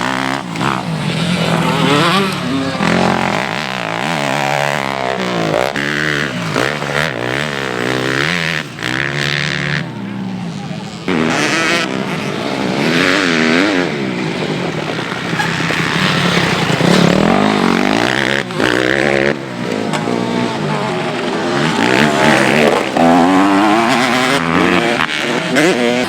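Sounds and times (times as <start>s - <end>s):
motocross bikes revving: 0.0s - 26.0s.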